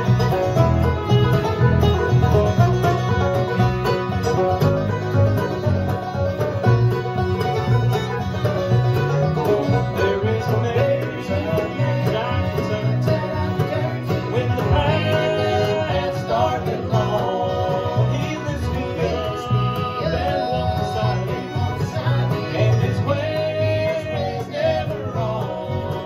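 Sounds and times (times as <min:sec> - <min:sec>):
acoustic guitars: 0:00.0 - 0:26.0
banjo: 0:00.0 - 0:26.0
fiddle: 0:00.0 - 0:26.0.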